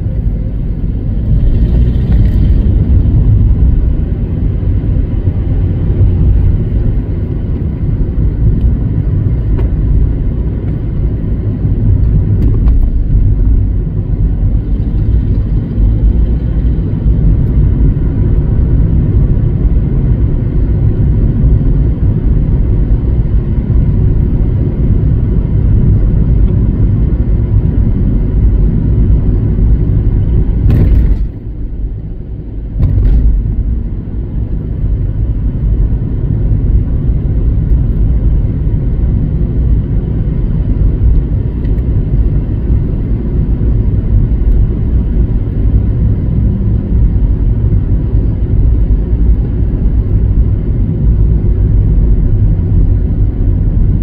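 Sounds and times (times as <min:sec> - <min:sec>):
moving car rumble: 0:00.0 - 0:54.0.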